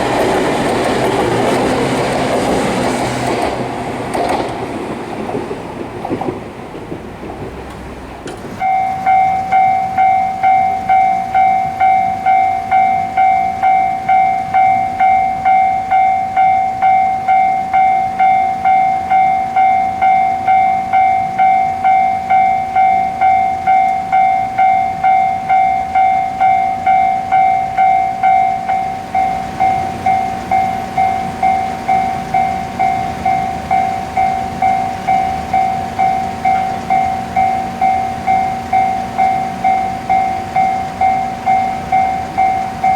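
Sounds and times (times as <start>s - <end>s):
level-crossing warning bell: 0.0s - 4.6s, 8.5s - 42.9s
train running noise: 0.0s - 42.9s.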